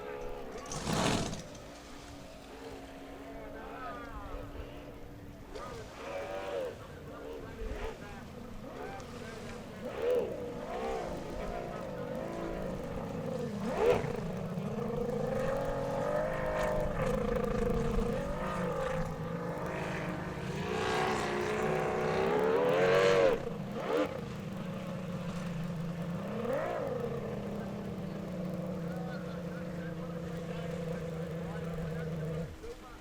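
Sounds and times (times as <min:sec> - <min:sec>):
racing boat engines passing: 0:00.0 - 0:33.0.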